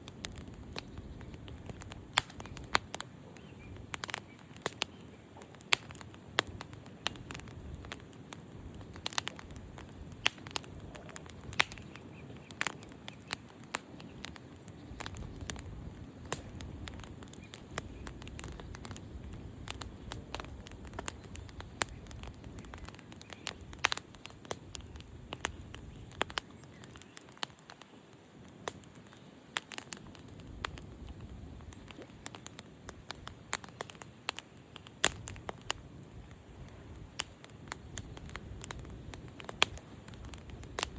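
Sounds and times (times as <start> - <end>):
low rumble of flames: 0.0 - 40.9
wood crackling and popping: 0.0 - 40.9.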